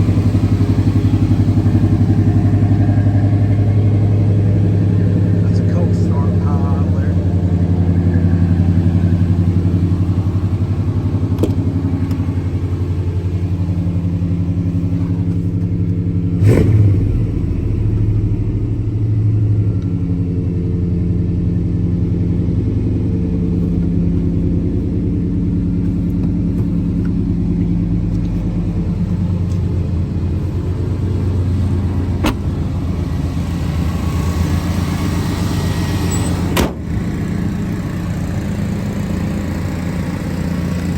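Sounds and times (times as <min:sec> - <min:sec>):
pickup truck engine idling: 0:00.0 - 0:40.9.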